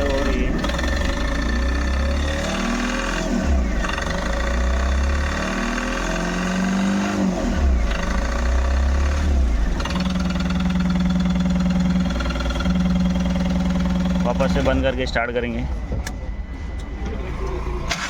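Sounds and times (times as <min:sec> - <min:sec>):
diesel engine revving and idling: 0:00.0 - 0:18.0.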